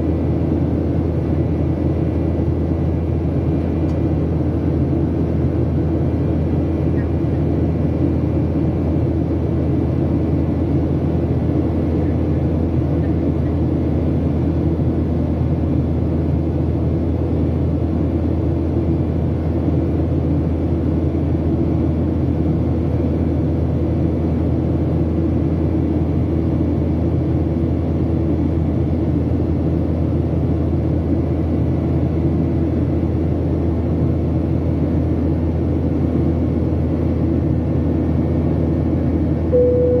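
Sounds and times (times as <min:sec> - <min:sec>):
jet engine drone in cabin: 0:00.0 - 0:40.0.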